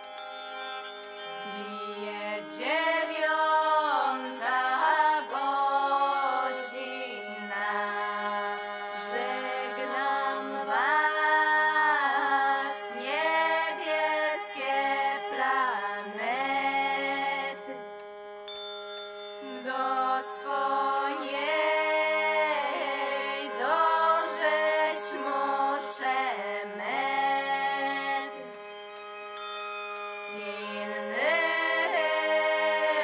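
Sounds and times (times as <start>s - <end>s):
steady held drone: 0.0s - 33.0s
person singing wavering phrases: 1.6s - 17.8s, 19.4s - 28.5s, 30.3s - 33.0s.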